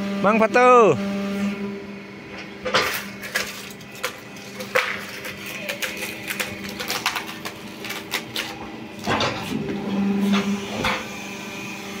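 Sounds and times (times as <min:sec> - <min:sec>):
log splitter motor humming: 0:00.0 - 0:12.0.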